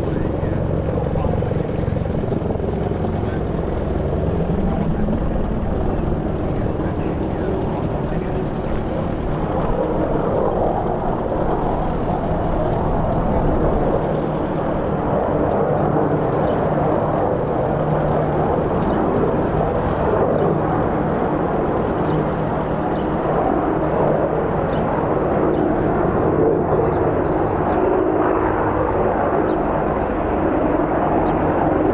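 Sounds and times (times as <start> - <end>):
helicopter rotor and turbine: 0.0 - 31.9.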